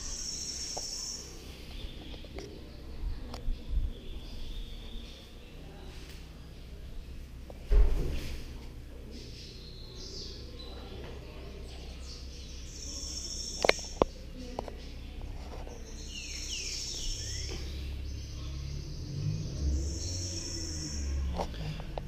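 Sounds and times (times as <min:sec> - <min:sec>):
birds chirping: 0:00.0 - 0:07.6, 0:08.6 - 0:22.0.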